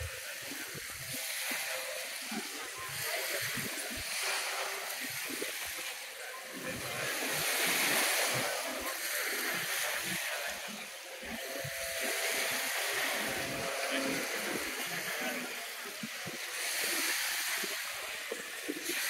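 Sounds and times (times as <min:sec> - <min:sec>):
surf rushing: 0:00.0 - 0:19.0.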